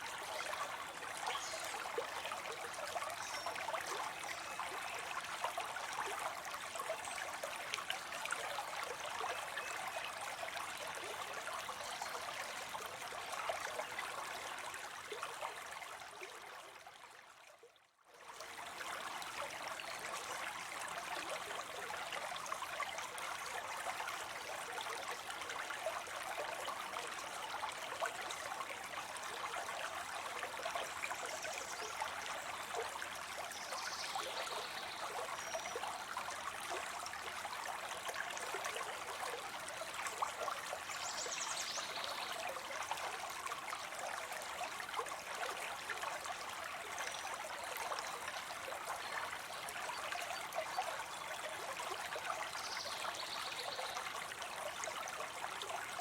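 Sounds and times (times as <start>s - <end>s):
water trickling into a pond: 0.0s - 56.0s.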